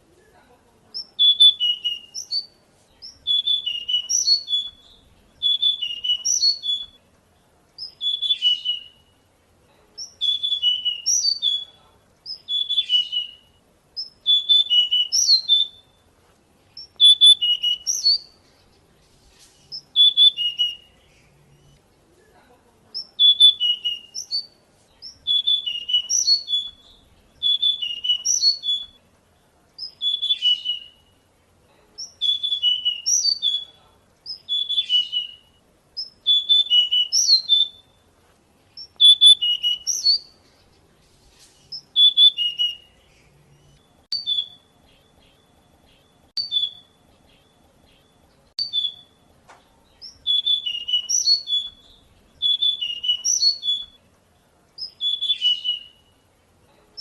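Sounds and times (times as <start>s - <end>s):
bird singing high phrases: 0.9s - 21.9s, 22.9s - 57.0s.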